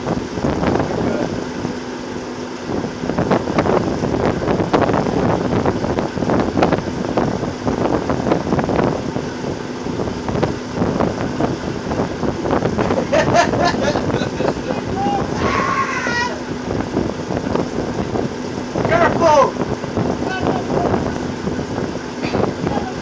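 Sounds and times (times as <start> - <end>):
rig machinery running loudly: 0.0 - 23.0
wind buffeting microphone: 0.0 - 23.0.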